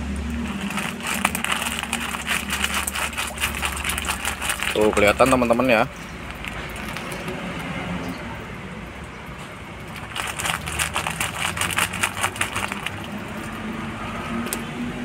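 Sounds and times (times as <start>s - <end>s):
low steady hum: 0.0s - 14.7s
fish splashing at water surface: 0.0s - 15.0s.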